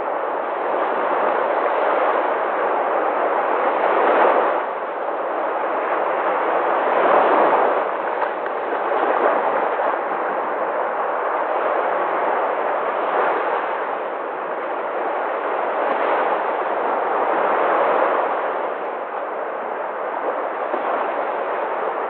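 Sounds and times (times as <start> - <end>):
sea waves breaking: 0.0 - 22.0.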